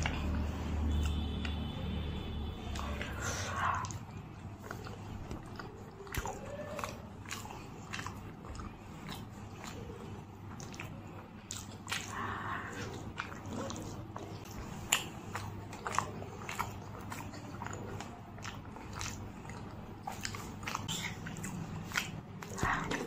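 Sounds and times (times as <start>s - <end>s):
person chewing food: 0.0s - 23.0s
mouth smacking clicks: 2.6s - 23.0s.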